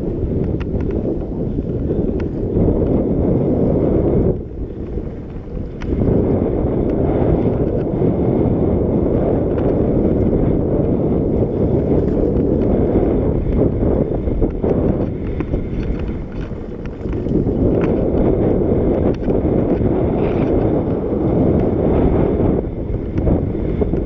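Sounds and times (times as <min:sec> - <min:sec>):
bike clicks and rattles: 0:00.0 - 0:24.0
wind over microphone: 0:00.0 - 0:24.0.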